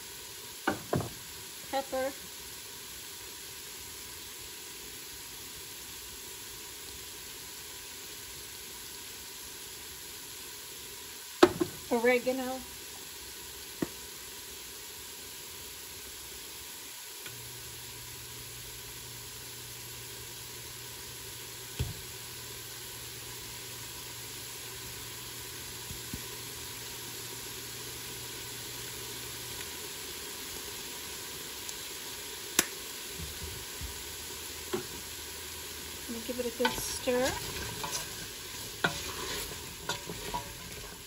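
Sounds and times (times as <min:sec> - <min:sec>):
vegetables sizzling in a pot: 0:00.0 - 0:41.0.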